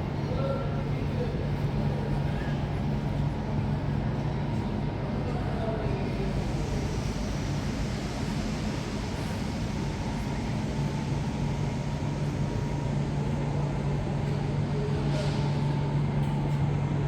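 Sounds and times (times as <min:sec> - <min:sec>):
train low hum: 0:00.0 - 0:17.0.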